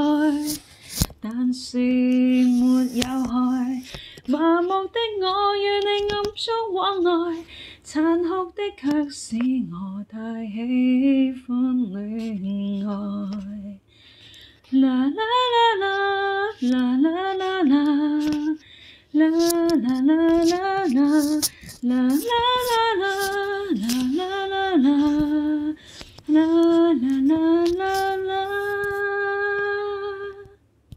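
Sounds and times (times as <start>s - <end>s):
woman singing unaccompanied: 0.0s - 0.6s, 1.2s - 13.8s, 14.7s - 30.6s.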